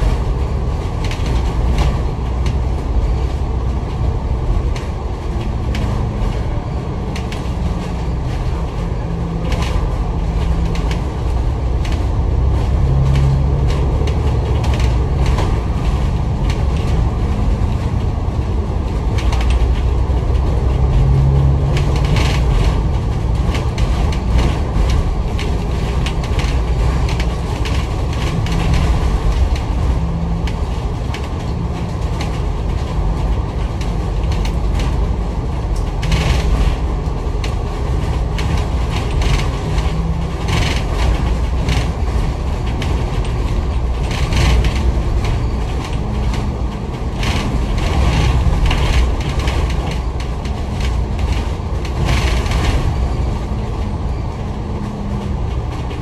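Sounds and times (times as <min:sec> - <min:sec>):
bus body rattles: 0:00.0 - 0:56.0
bus engine and road rumble: 0:00.0 - 0:56.0
loud air-conditioning noise: 0:00.0 - 0:56.0.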